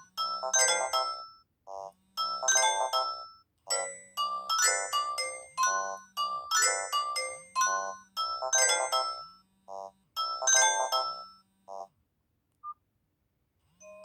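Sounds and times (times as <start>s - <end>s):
phone ringtone: 0.0s - 11.9s.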